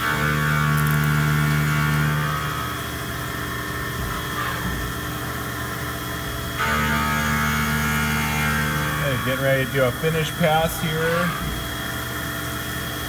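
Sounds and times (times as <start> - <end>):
milling machine hum and whine: 0.0 - 13.0.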